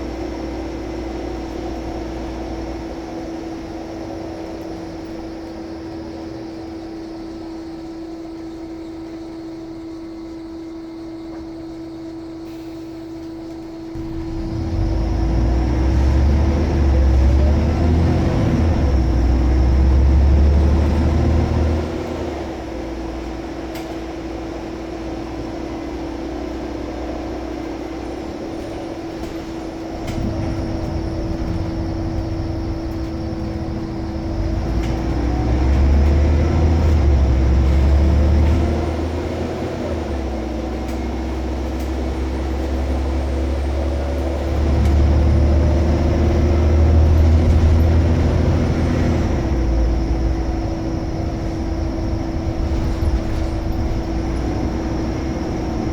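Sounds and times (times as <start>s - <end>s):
steady whine: 0.0s - 26.2s, 26.8s - 55.9s
bus diesel engine under load: 0.0s - 55.9s.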